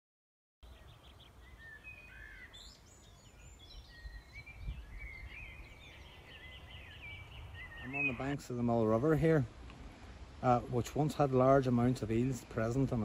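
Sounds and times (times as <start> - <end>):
small birds chirping: 0.6 - 13.0.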